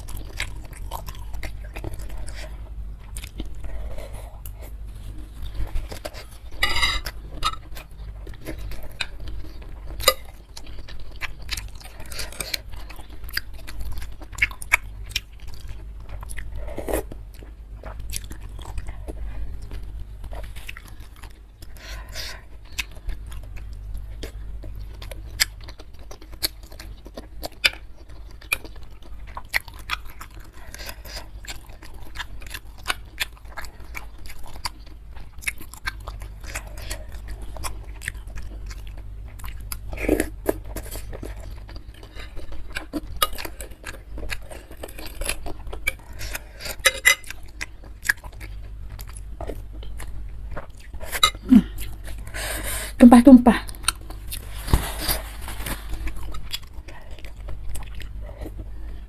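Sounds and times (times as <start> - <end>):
close-miked chewing and biting: 0.0 - 53.0, 53.6 - 59.0.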